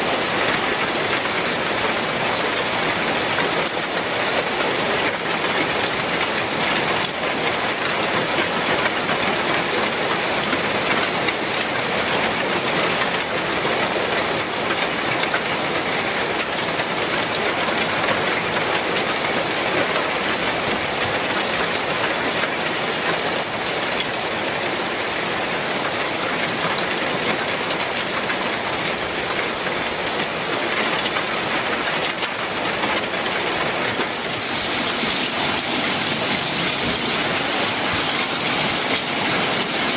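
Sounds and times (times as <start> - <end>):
heavy rain on tile roof: 0.0 - 39.9.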